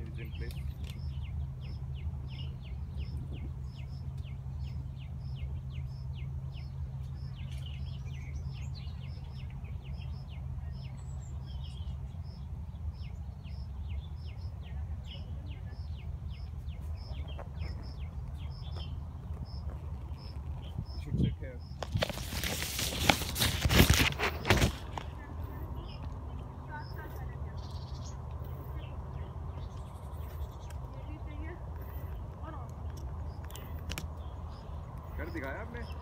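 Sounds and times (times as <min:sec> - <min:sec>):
bird calling: 0:00.0 - 0:36.0
low steady rumble: 0:00.0 - 0:36.0.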